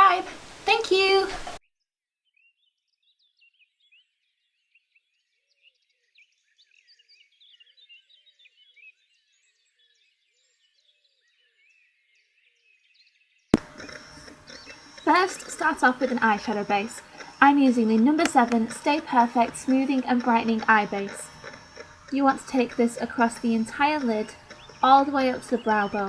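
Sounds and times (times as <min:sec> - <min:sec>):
small birds chirping: 0:02.3 - 0:13.0, 0:13.6 - 0:26.0.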